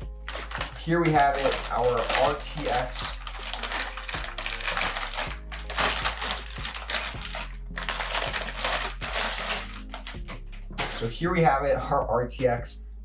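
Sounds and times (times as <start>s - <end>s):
packaging crinkling: 0.0s - 11.1s
background music: 0.0s - 13.0s.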